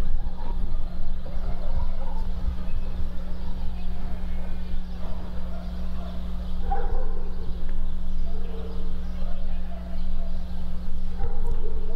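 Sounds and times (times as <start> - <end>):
faint distant voices: 0.0 - 11.9.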